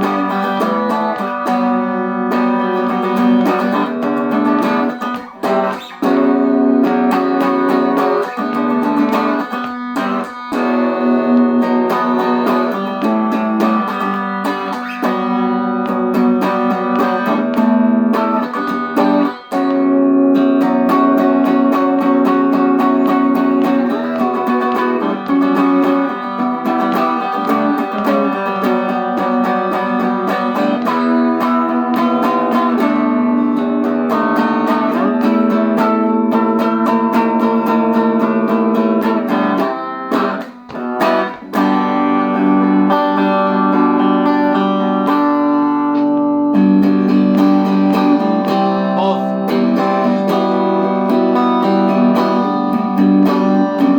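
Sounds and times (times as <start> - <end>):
electric guitar playing: 0.0 - 53.9.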